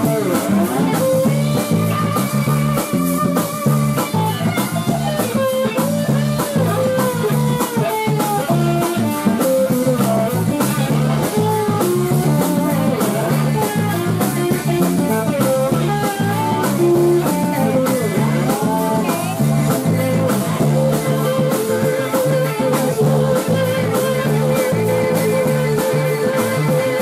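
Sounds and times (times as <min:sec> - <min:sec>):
drums: 0:00.0 - 0:27.0
electric guitar lead: 0:00.0 - 0:27.0
pulsing bass: 0:00.0 - 0:27.0.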